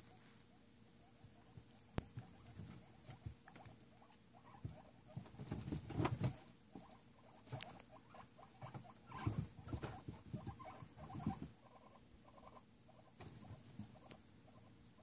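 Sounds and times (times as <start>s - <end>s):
guinea pigs calling: 0.0s - 15.0s
guinea pigs scuffling: 0.0s - 15.0s.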